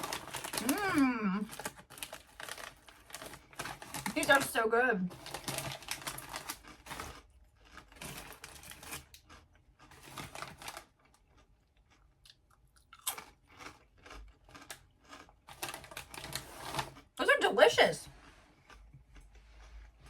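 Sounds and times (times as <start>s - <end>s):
chewing crunchy corn chips: 0.0s - 17.2s, 18.1s - 20.0s.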